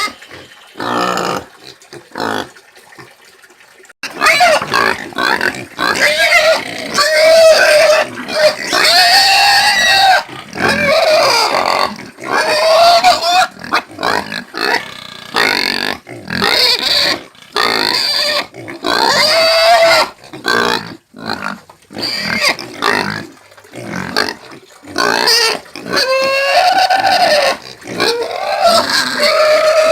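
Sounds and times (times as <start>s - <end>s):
pigs squealing: 0.0s - 2.5s, 4.0s - 29.9s.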